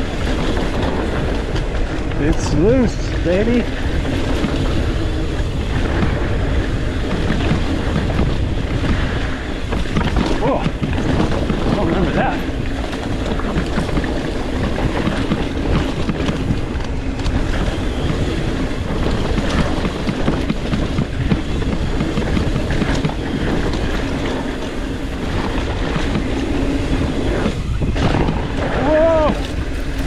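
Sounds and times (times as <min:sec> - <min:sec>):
bike rattling and clicking: 0:00.0 - 0:30.0
tyres rumbling on dirt: 0:00.0 - 0:30.0.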